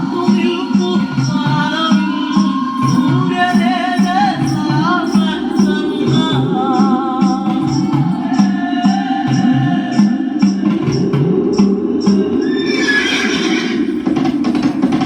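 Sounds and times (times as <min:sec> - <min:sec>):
dance music with percussion beat: 0:00.0 - 0:12.5, 0:13.7 - 0:15.0.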